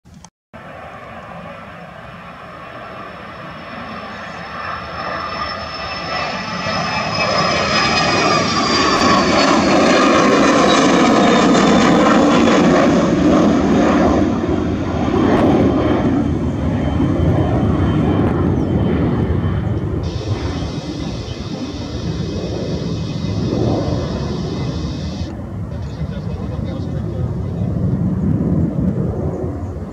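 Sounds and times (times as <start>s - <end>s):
high jet engine whine: 0.1s - 29.9s
jet passing overhead: 0.6s - 29.9s.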